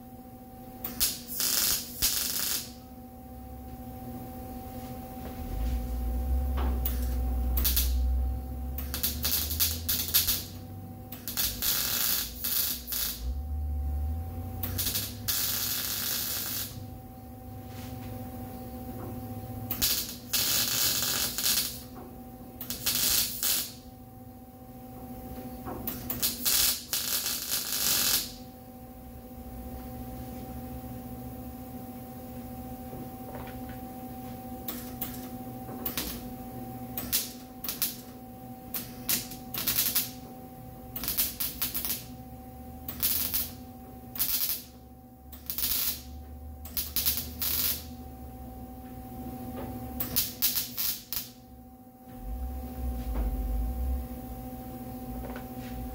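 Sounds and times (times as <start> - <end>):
welder arc crackling sizzle: 0.6 - 2.9, 4.6 - 22.0, 22.6 - 23.9, 25.1 - 28.6, 32.8 - 55.9.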